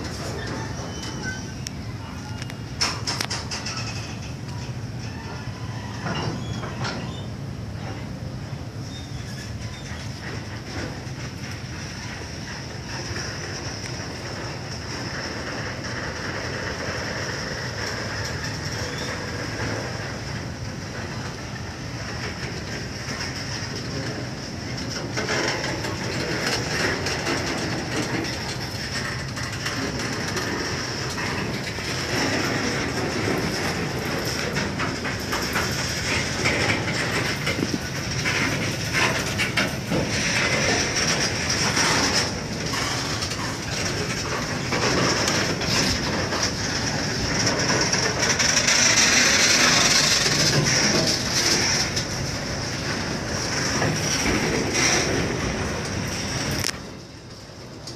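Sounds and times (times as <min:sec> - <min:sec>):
train wheels rumbling on rails: 0:00.0 - 0:57.9
wheels clacking over rail joints: 0:00.0 - 0:57.9.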